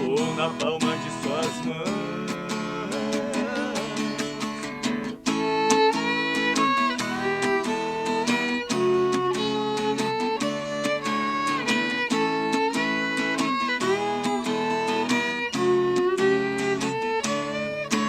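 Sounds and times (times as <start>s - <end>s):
fiddle melody: 0.0s - 18.0s
strummed acoustic guitar: 0.0s - 18.0s.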